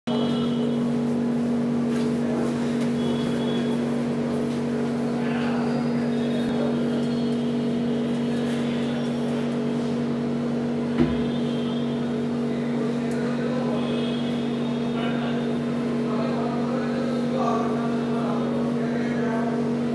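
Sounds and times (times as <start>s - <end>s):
low machine hum: 0.1s - 19.9s.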